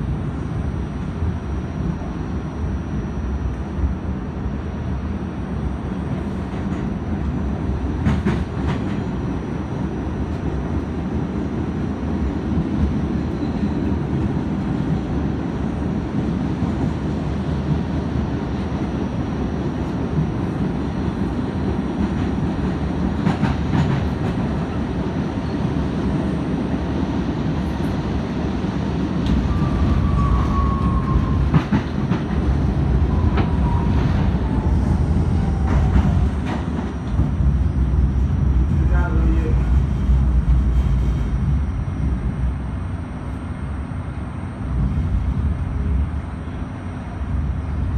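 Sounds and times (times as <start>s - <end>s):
subway train rumble: 0.0s - 47.9s.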